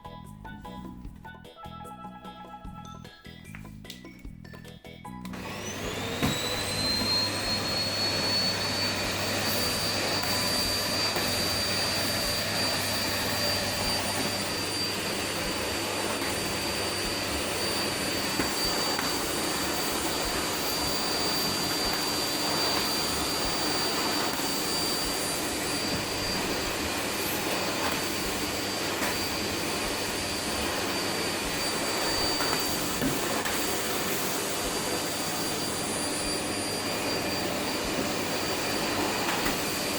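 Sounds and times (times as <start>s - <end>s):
vacuum cleaner motor whine: 5.3s - 39.9s.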